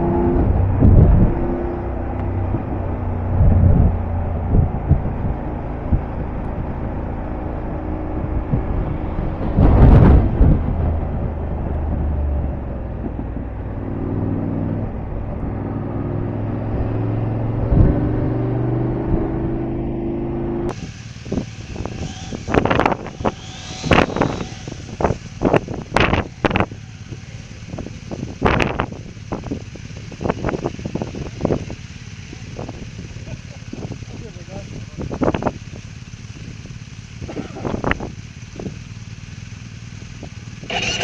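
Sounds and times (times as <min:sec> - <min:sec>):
wind noise: 0:00.0 - 0:15.1, 0:16.6 - 0:19.7, 0:20.7 - 0:38.8
motorcycle engine running: 0:00.0 - 0:41.0.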